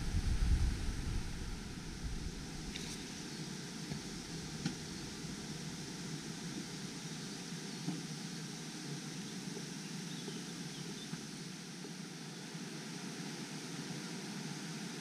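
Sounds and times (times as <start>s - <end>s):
wind through trees: 0.0s - 15.0s.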